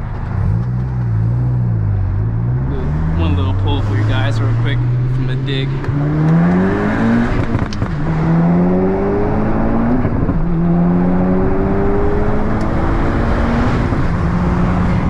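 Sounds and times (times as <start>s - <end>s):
car engine revving through gears: 0.2s - 15.0s.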